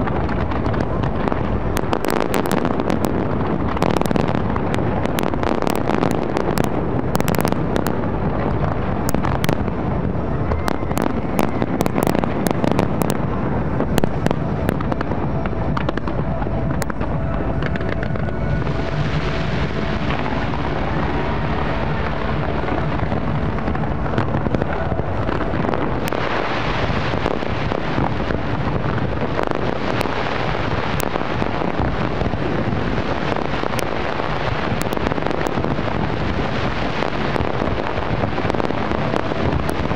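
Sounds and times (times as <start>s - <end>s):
dense fireworks crackling: 0.0s - 39.9s.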